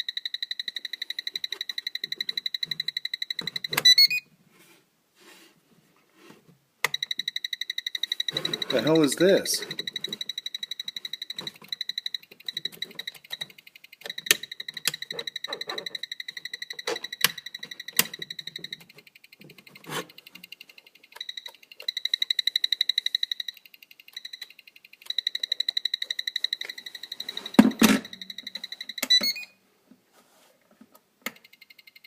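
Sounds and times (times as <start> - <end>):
short high-pitched beeps: 0.0 - 4.2, 6.9 - 29.6, 31.3 - 32.0.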